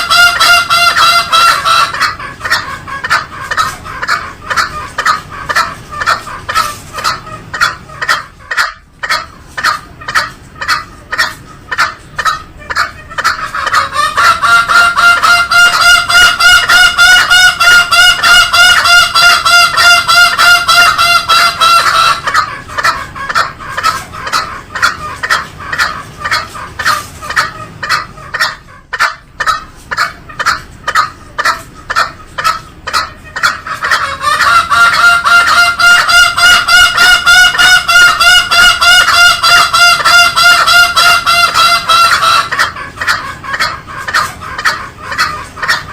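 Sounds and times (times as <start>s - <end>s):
junglefowl clucking: 0.0s - 45.9s.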